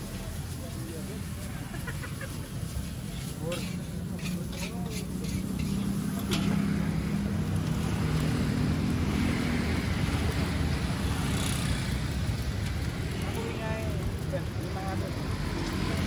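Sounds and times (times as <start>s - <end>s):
rushing traffic hiss: 0.0s - 16.0s.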